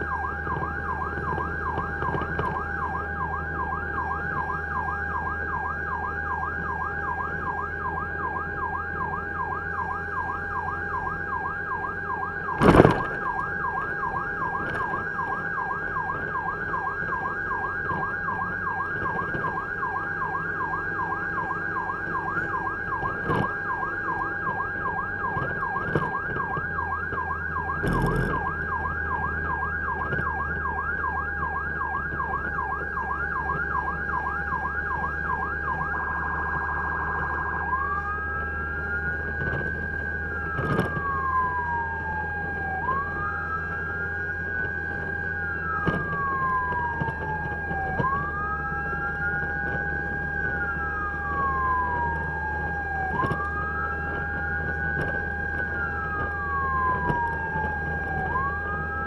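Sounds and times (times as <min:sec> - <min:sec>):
fire truck siren yelping: 0:00.0 - 0:59.0
low engine hum: 0:00.0 - 0:59.0.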